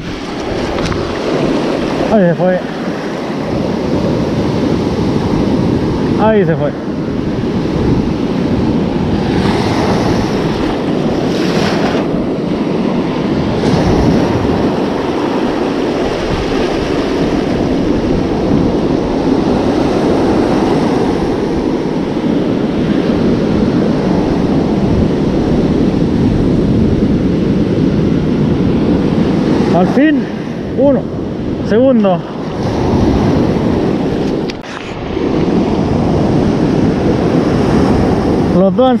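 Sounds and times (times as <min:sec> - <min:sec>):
ocean surf breaking on sand: 0:00.0 - 0:39.0
wind buffeting microphone: 0:00.0 - 0:39.0.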